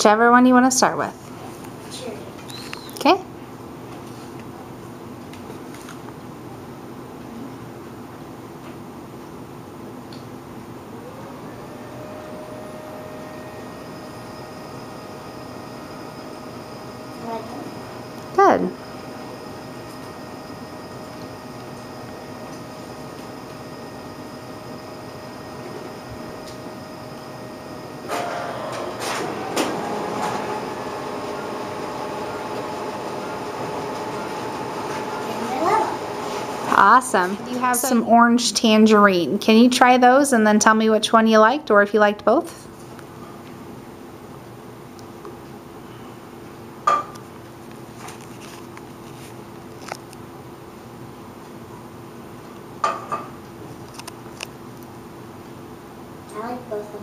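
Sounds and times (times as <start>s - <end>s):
room hum: 0.0s - 57.0s.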